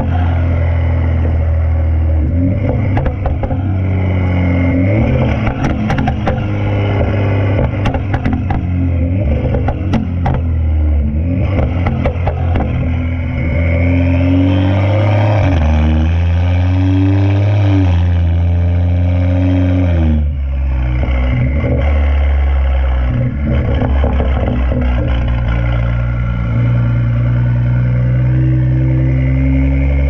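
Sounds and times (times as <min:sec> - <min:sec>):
exhaust crackles: 0:00.0 - 0:30.0
loud car exhaust drone: 0:00.0 - 0:30.0.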